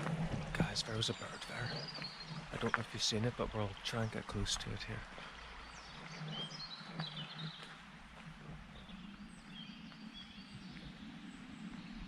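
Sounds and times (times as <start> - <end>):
faint low rumble: 0.0 - 12.0
small birds chirping: 0.0 - 12.0.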